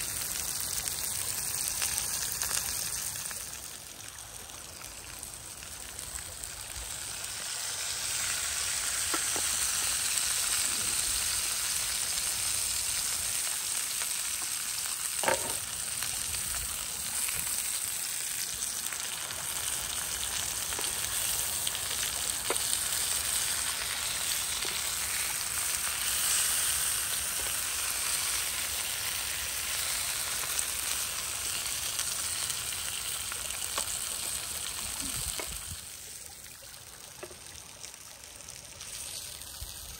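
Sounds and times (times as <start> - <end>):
meat sizzling in a grill pan: 0.0 - 39.9.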